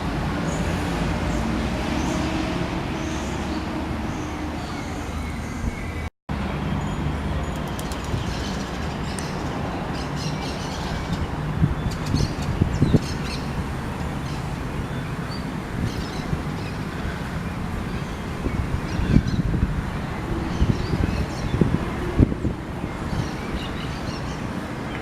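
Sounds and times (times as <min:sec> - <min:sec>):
distant traffic: 0:00.0 - 0:25.0
wind rumble on microphone: 0:00.0 - 0:25.0.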